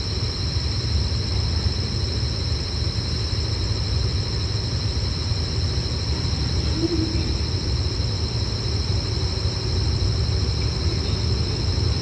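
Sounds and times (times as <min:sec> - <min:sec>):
high-pitched two-tone whine: 0:00.0 - 0:12.0.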